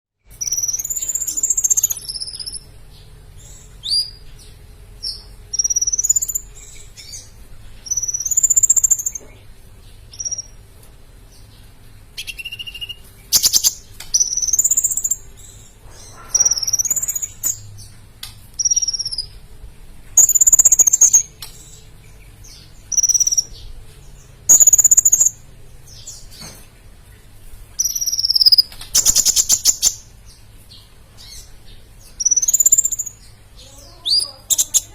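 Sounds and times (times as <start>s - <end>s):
sunbird singing: 0.2s - 10.6s, 11.3s - 19.5s, 20.1s - 26.6s, 27.8s - 34.9s
faint steady hum: 0.2s - 34.9s.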